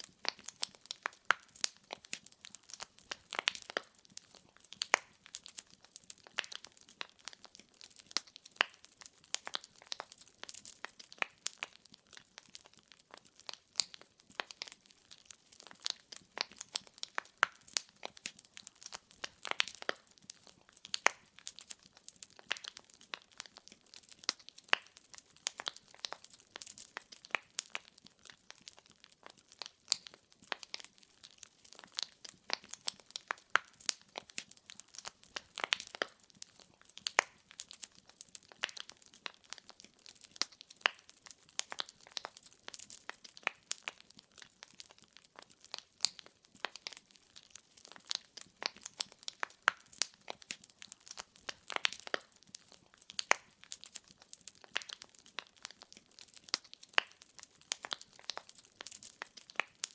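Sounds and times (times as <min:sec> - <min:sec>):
firewood crackling and popping: 0:00.0 - 0:59.9.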